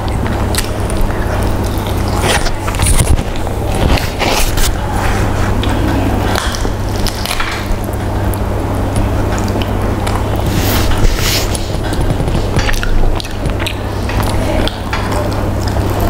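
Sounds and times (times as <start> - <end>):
steady low hum: 0.0 - 16.0
wet chewing and mouth sounds: 0.0 - 16.0.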